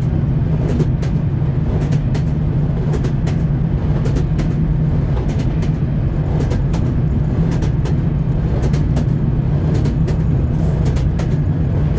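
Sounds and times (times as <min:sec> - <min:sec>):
moving train rumble: 0:00.0 - 0:11.9
train wheels clacking: 0:00.6 - 0:11.9.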